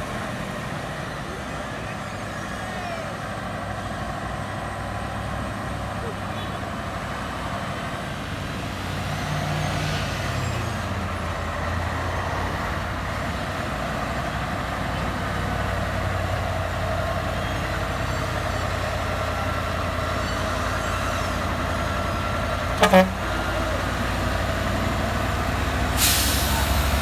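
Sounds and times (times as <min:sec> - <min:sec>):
truck diesel engine under load: 0:00.0 - 0:27.0.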